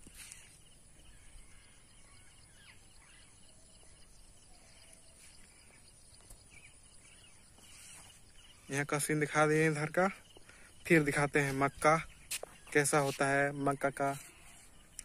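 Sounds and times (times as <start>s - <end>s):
distant bird calls: 0.0s - 15.0s.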